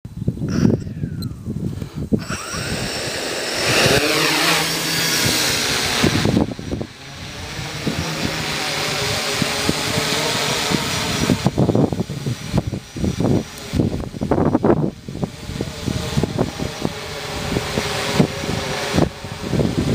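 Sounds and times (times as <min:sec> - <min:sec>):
low buffeting: 0:00.1 - 0:19.9
drone propellers buzzing: 0:00.3 - 0:19.9.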